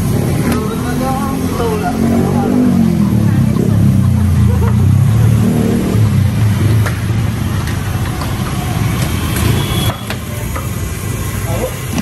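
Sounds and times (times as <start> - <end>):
vehicle engine revving: 0.0 - 9.9.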